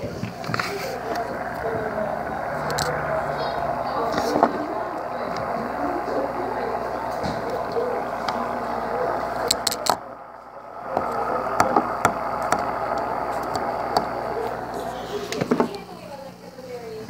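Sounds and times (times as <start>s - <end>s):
steady noisy hum: 0.0s - 17.0s.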